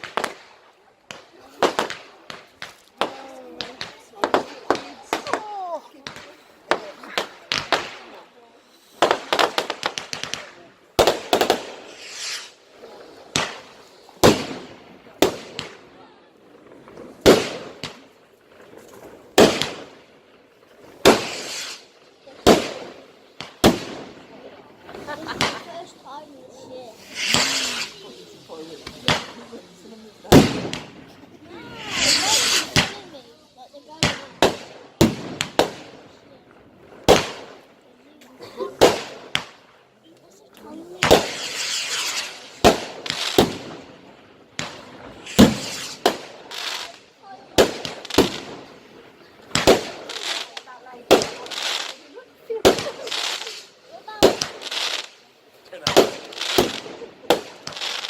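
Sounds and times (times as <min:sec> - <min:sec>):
fireworks bangs: 0:00.0 - 0:39.8, 0:40.6 - 0:58.0
crackling hiss: 0:00.0 - 0:58.0.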